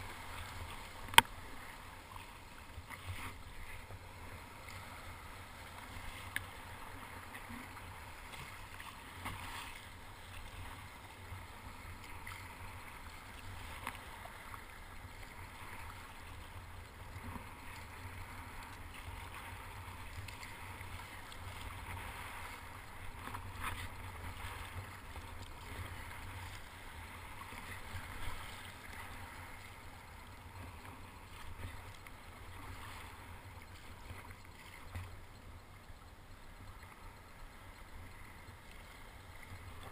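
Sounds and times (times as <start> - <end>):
water sloshing against kayak: 0.0 - 39.9.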